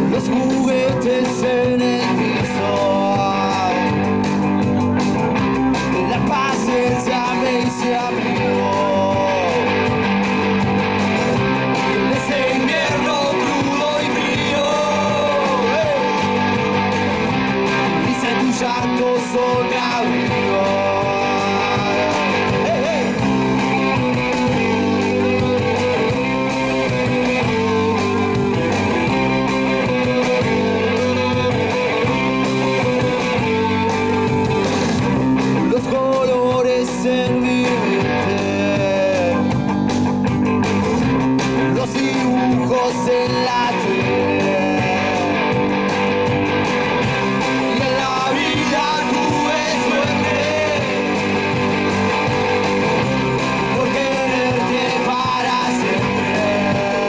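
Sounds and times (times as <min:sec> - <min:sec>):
person singing: 0:00.0 - 0:05.0, 0:05.8 - 0:10.1, 0:11.7 - 0:16.9, 0:17.8 - 0:35.0, 0:35.6 - 0:39.6, 0:41.7 - 0:45.7, 0:47.6 - 0:57.0
bass guitar: 0:00.0 - 0:57.0
drums: 0:00.0 - 0:57.0
electric guitars: 0:00.0 - 0:57.0.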